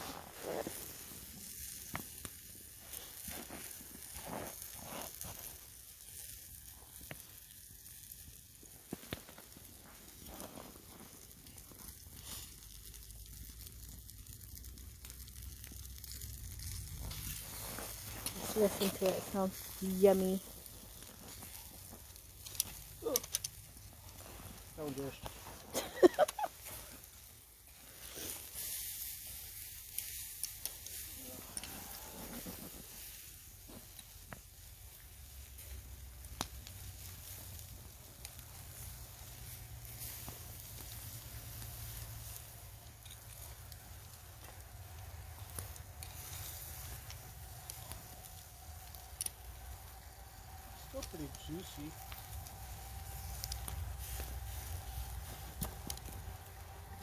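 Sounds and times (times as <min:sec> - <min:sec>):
faint crackles: 0:00.0 - 0:57.0
fire popping: 0:00.0 - 0:57.0
meat sizzling on a grill: 0:00.0 - 0:57.0.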